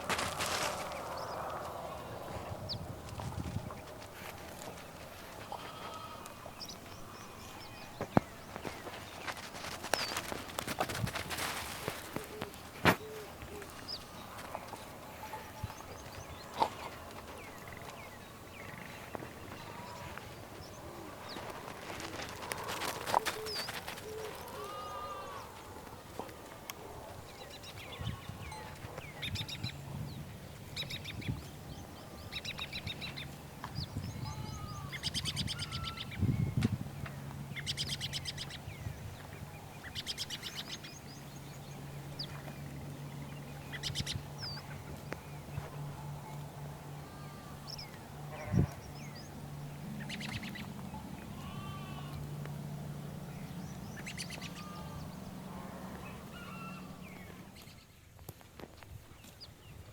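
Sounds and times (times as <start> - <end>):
birds chirping and trilling: 0.0 - 58.2.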